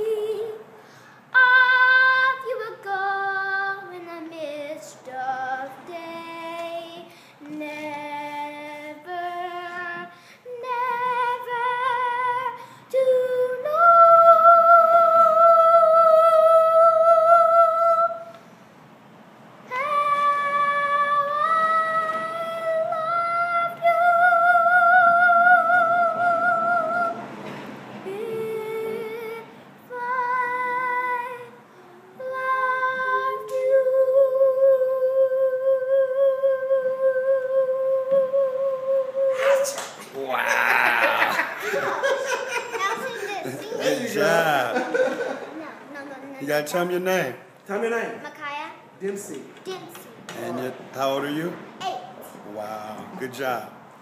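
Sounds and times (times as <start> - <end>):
girl singing unaccompanied: 0.0 - 18.4, 19.6 - 39.8, 41.6 - 46.9.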